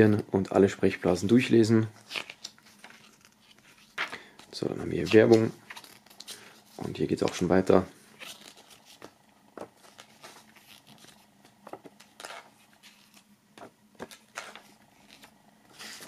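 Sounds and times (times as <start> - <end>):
paper pages turning: 1.9 - 16.0.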